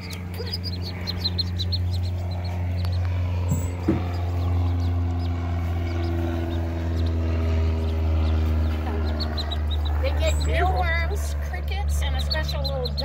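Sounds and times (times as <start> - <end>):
ducklings peeping: 0.0 - 13.0
low mechanical hum: 0.0 - 13.0.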